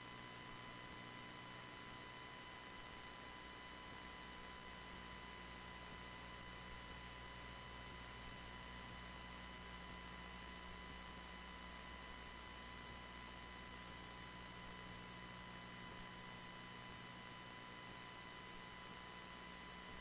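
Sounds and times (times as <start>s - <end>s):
electrical hum with high whine: 0.0s - 20.0s.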